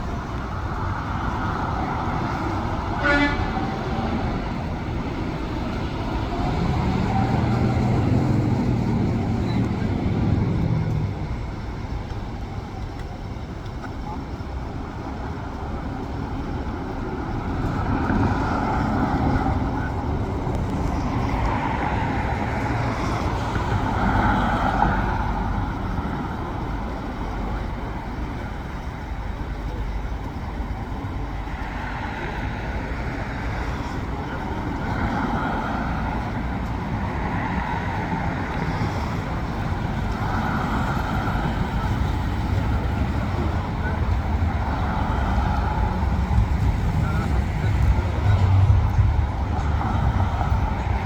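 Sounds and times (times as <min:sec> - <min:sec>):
traffic low rumble: 0:00.0 - 0:51.0
vehicles passing: 0:00.0 - 0:51.0.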